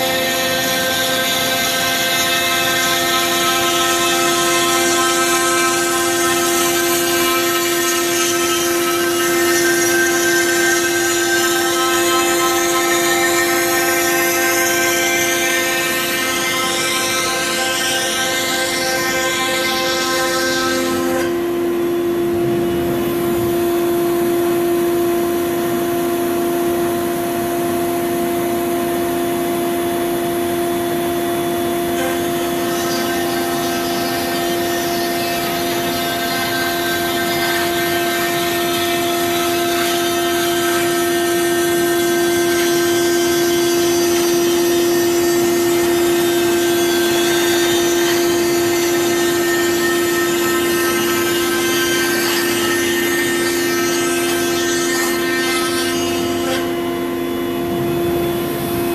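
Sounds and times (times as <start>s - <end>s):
router spindle high-pitched whine: 0.0s - 58.9s.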